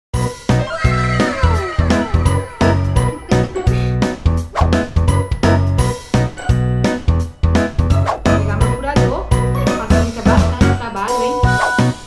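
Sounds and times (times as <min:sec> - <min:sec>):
upbeat music with steady beat: 0:00.2 - 0:12.0.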